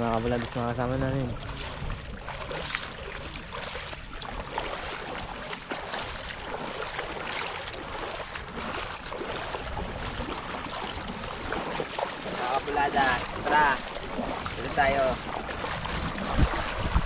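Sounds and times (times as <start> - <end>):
seawater splashing and sloshing: 0.0 - 17.0
wind rumble on microphone: 0.0 - 17.0.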